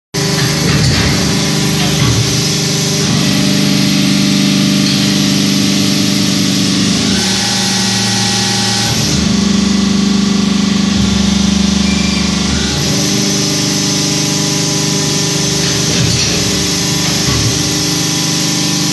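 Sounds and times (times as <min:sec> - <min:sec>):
press machine humming: 0:00.2 - 0:18.9.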